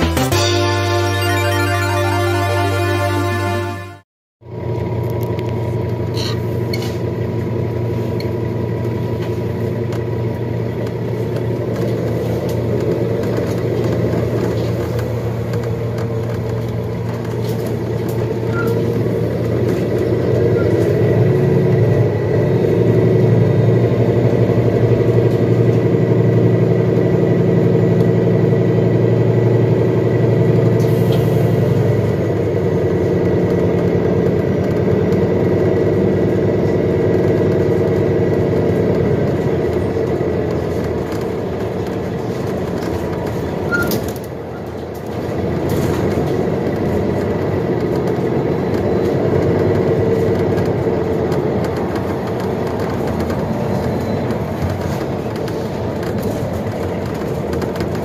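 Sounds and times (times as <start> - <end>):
bus drivetrain whine: 0.0 - 58.0
road and engine rumble: 0.0 - 58.0.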